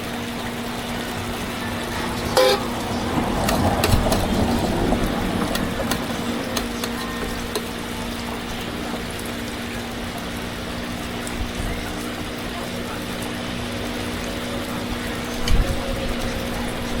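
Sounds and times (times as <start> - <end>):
low hum: 0.0 - 17.0
oil sizzling in deep fryer: 0.0 - 17.0.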